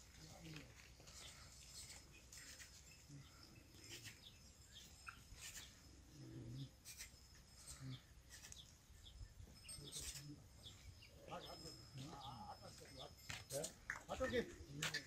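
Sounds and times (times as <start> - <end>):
faint bird chirps: 0.2 - 13.6.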